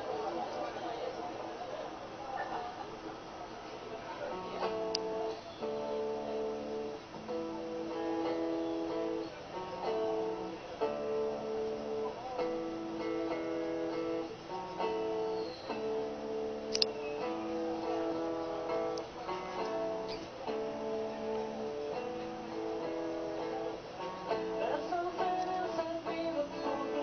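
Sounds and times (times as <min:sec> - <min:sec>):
guitar strumming chords: 0:04.2 - 0:27.0.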